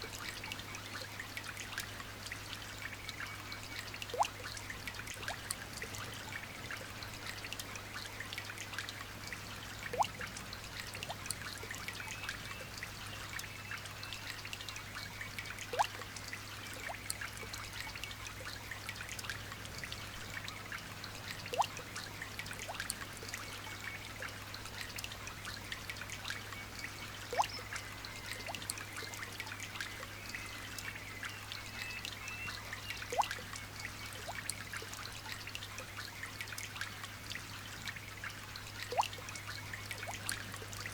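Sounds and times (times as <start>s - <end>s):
water drip plops: 0.0s - 40.9s.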